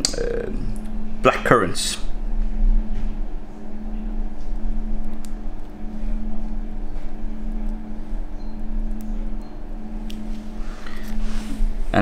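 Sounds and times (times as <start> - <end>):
machine low hum: 0.0 - 12.0.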